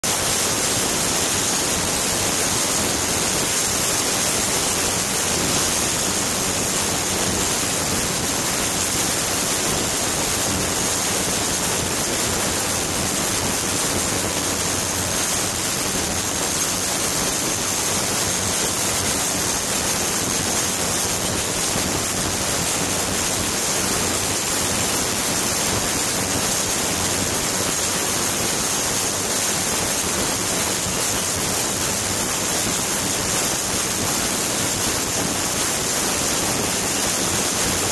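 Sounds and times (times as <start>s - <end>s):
thin high-pitched whine: 0.1s - 37.9s
ultrasonic cleaning bath hissing: 0.1s - 37.9s.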